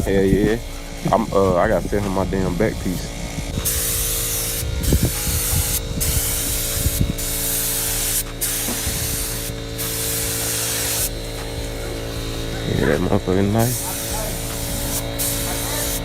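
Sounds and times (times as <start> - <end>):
paint spray hissing: 0.0 - 16.0
steady low hum: 0.0 - 16.0.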